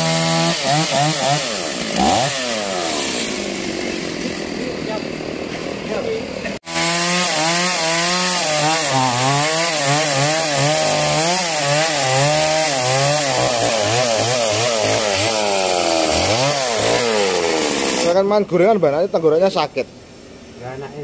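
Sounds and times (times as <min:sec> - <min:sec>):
chainsaw cutting log: 0:00.0 - 0:05.9, 0:06.6 - 0:18.2.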